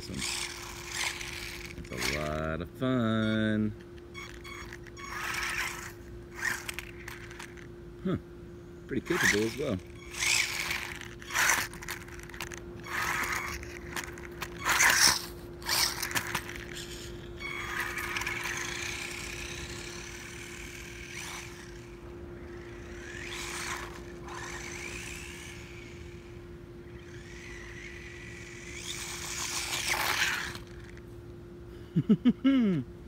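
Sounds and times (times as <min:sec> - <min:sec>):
rc car electric motor whine: 0:00.0 - 0:07.8, 0:08.7 - 0:31.2.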